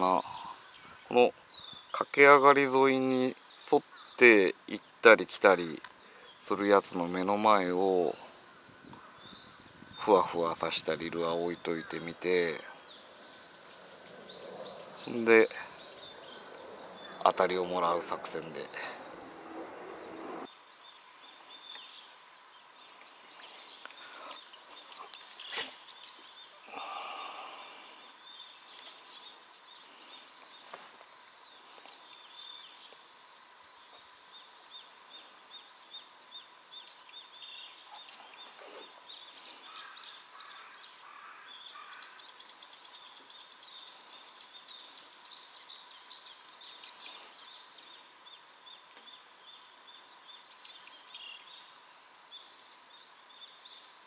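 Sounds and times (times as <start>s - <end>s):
wild birds calling: 0.0s - 54.0s.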